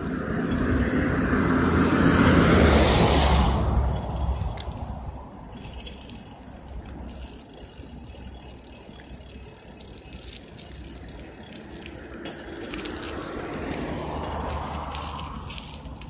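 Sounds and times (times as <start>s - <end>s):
bicycle ticking and rattling: 0.0s - 16.0s
wind and road noise rumble: 0.0s - 16.0s.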